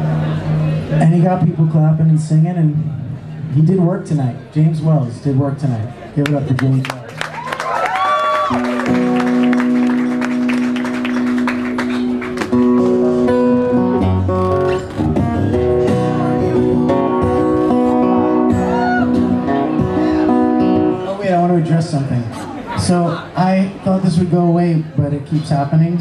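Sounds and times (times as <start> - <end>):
acoustic guitar: 0.0 - 5.5, 8.5 - 26.0.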